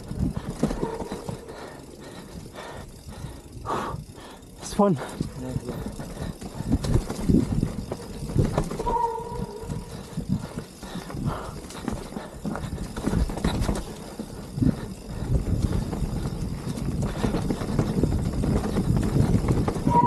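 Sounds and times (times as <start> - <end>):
mountain bike rattling over rocks: 0.0 - 20.0.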